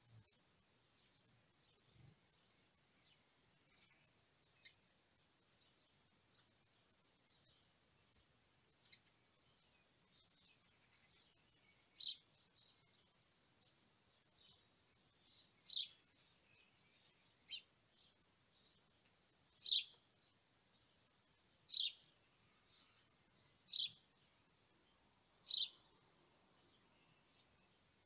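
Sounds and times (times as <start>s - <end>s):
bird chirping: 0.0s - 28.0s
faint background hiss: 0.0s - 28.0s.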